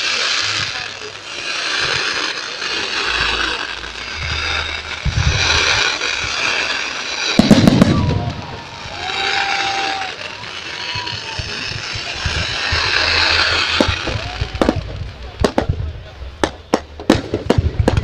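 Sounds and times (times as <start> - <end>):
fireworks crackling: 0.0 - 18.0
low fireworks booms: 0.0 - 18.0
sharp fireworks bangs: 0.0 - 18.0.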